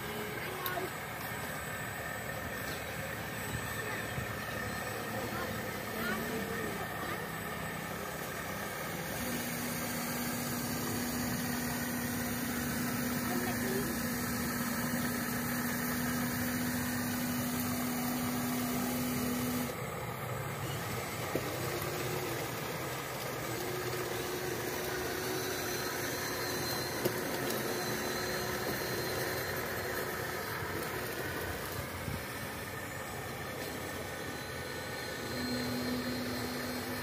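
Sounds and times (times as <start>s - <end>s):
toy excavator mechanical hum: 0.0s - 37.0s.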